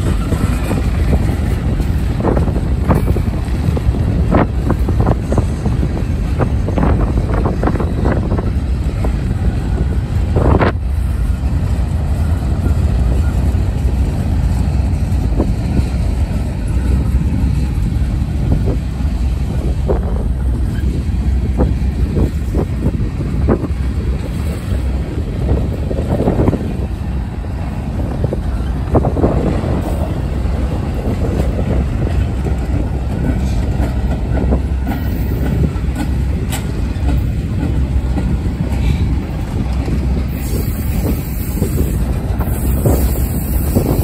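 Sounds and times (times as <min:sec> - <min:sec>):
train clicks and clanks: 0:00.0 - 0:44.0
train wheels rumbling on rail: 0:00.0 - 0:44.0
wind buffeting microphone: 0:00.0 - 0:44.0.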